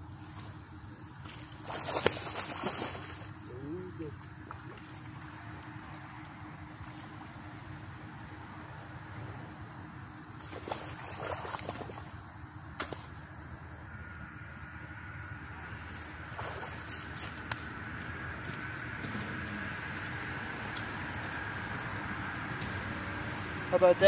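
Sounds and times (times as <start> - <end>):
water splashing and sloshing: 0.0 - 13.6, 14.3 - 23.7.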